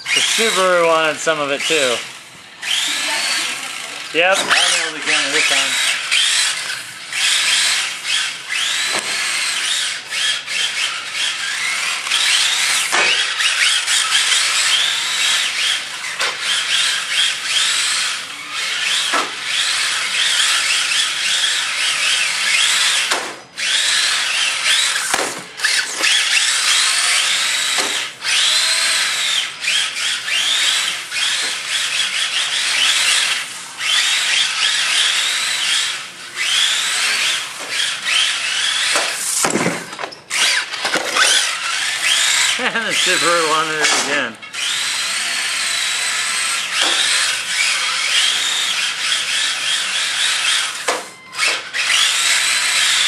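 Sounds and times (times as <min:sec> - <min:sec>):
tyres sliding on concrete: 0:00.0 - 0:22.8, 0:23.8 - 0:51.1
toy car motors whining: 0:00.0 - 0:53.0.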